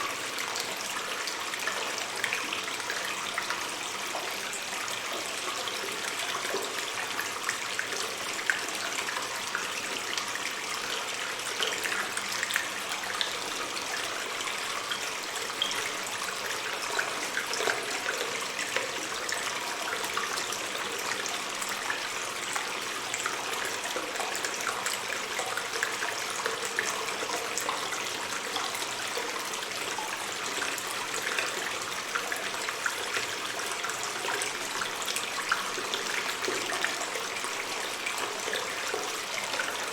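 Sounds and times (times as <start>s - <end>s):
water drips and plops: 0.0s - 39.9s
water stream trickling: 0.0s - 39.9s.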